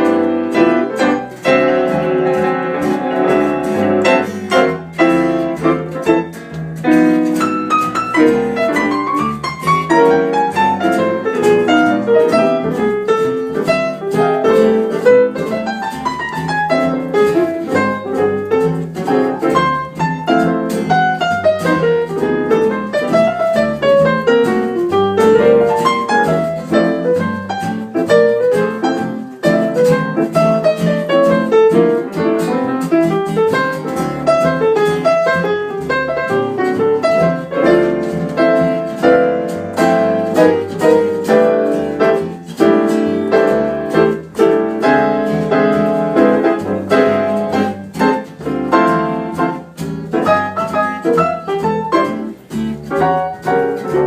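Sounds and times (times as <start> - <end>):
fast piano music: 0.0 - 54.0.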